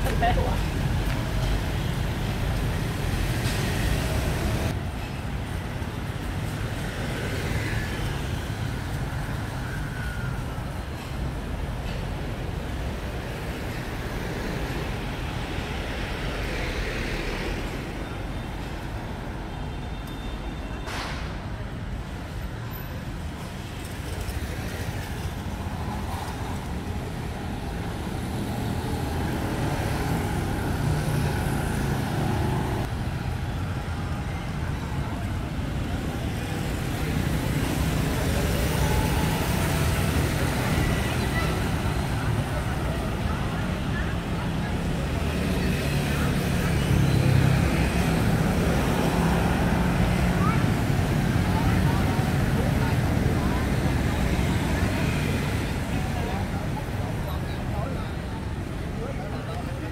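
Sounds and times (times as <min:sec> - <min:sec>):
motorbikes and cars passing: 0:00.0 - 0:11.5, 0:21.6 - 0:59.9.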